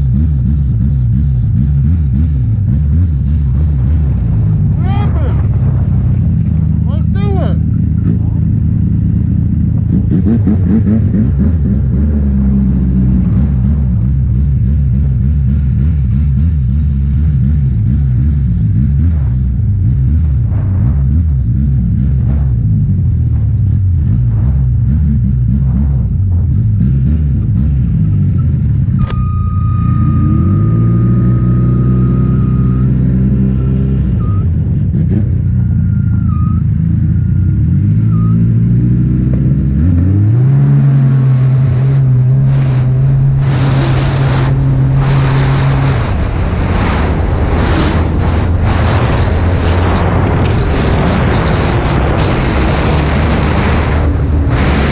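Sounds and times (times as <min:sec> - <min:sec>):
snowmobile engine revving: 0:00.0 - 0:54.9
track and wind noise: 0:00.0 - 0:54.9.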